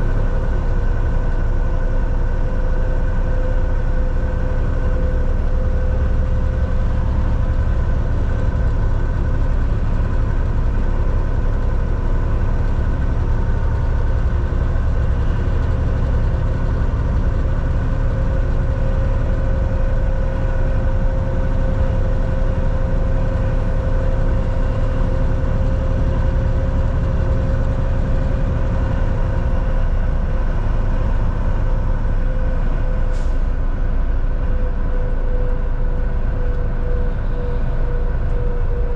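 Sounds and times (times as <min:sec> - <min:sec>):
drivetrain whine: 0:00.0 - 0:38.9
truck engine and road rumble: 0:00.0 - 0:38.9.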